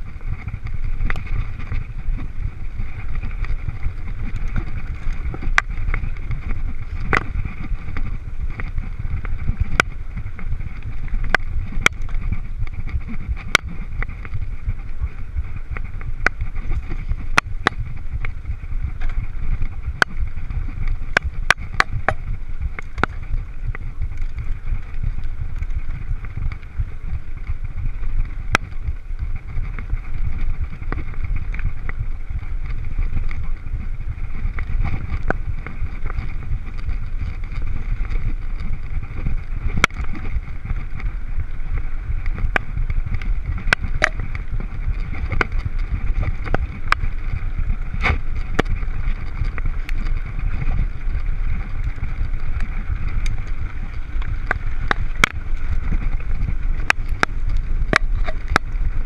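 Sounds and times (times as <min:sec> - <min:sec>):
bike clicks and rattles: 0:00.0 - 0:59.0
wind buffeting microphone: 0:00.0 - 0:59.0.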